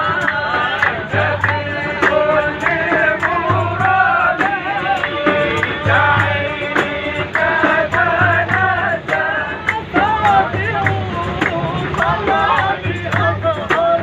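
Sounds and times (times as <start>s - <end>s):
percussive beat: 0.0s - 14.0s
young men singing together: 0.0s - 14.0s.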